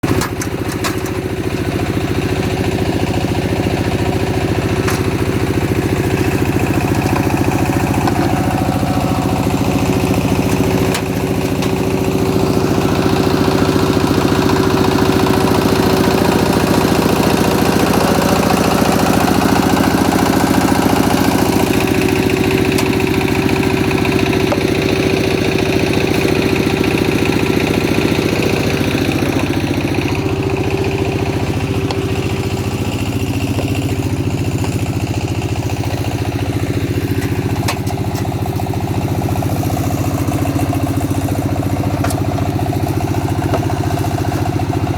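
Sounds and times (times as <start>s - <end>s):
machine engine running: 0.0s - 44.9s.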